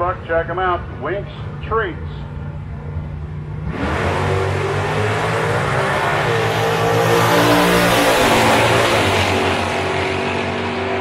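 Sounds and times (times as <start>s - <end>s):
racing car engines at full throttle: 0.0s - 11.0s.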